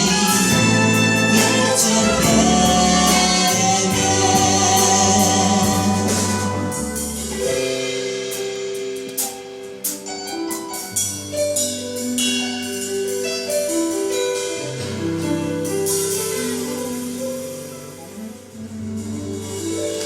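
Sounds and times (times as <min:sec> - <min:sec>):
drum and cymbal hits: 0:00.0 - 0:20.0
orchestra playing instrumental: 0:00.0 - 0:20.0.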